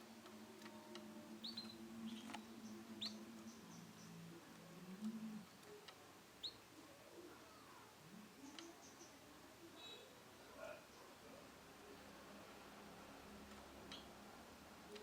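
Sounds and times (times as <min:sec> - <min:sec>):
canary chirping: 0:00.0 - 0:11.5, 0:13.5 - 0:14.2
faint low hum: 0:00.0 - 0:15.0.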